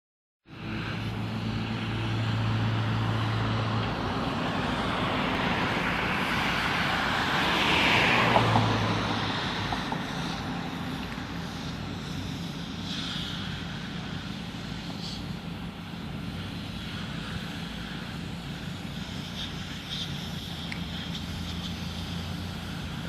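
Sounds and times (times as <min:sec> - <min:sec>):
low engine hum: 0:00.5 - 0:23.0
traffic rushing past: 0:00.5 - 0:23.0.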